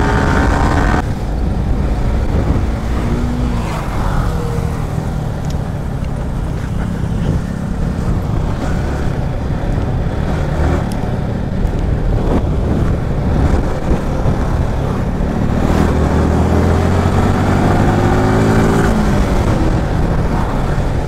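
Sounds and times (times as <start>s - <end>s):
motorcycle engine revving: 0.0s - 21.0s
road and wind noise: 0.0s - 21.0s.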